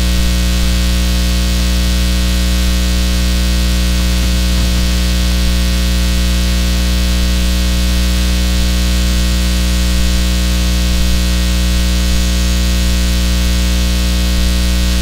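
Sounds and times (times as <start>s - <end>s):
loud electrical hum: 0.0s - 15.0s
static hiss: 0.0s - 15.0s.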